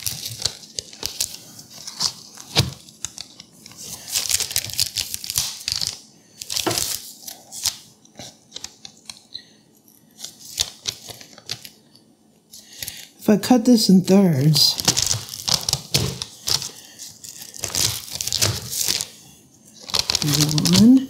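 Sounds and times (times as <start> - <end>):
parchment paper rustling: 0.0 - 9.3, 10.0 - 11.8, 14.4 - 21.0.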